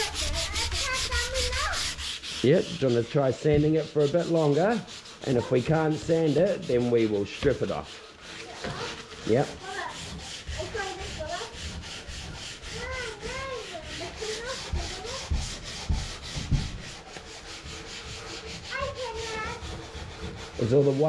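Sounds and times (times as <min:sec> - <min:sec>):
sandpaper rubbing on wood: 0:00.0 - 0:21.0.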